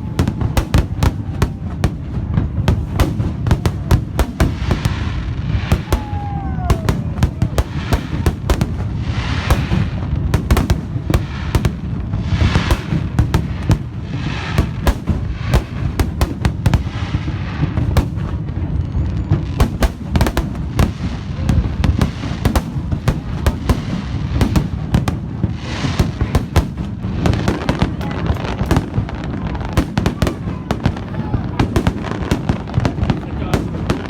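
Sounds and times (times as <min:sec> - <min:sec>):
fireworks crackling: 0:00.0 - 0:34.0
fireworks sharp bangs: 0:00.0 - 0:34.0
low rumble of booms: 0:00.0 - 0:34.0.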